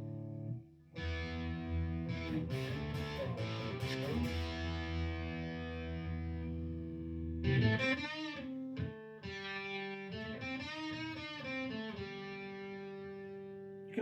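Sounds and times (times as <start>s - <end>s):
electric guitar: 0.0s - 14.0s.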